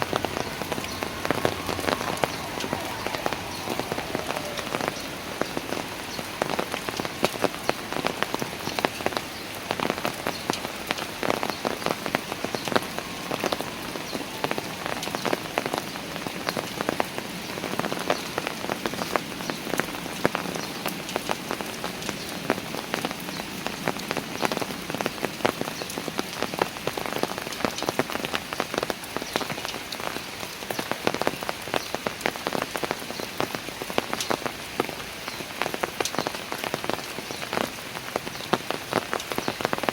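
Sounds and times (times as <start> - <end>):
rain falling on steps: 0.0 - 39.9.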